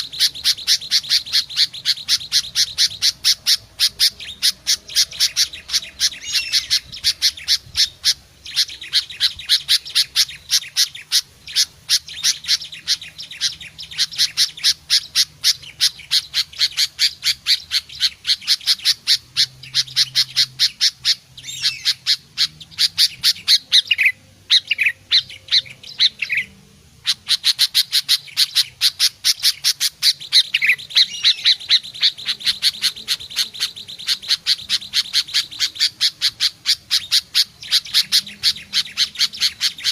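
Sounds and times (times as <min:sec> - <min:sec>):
bird calling harsh notes: 0:00.0 - 0:39.9.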